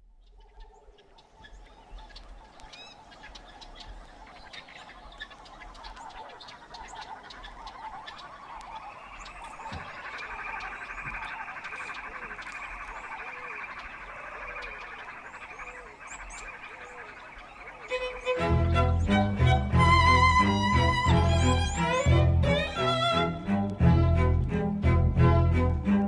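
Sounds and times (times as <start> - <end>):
frogs croaking: 0.0 - 23.8
birds chirping: 0.0 - 26.0.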